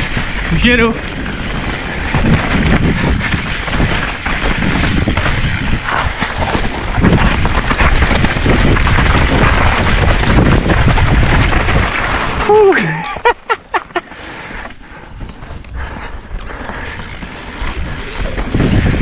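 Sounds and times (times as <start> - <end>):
bike rattling and jolting: 0.0 - 19.0
bike tyres on dirt and rock: 0.0 - 19.0.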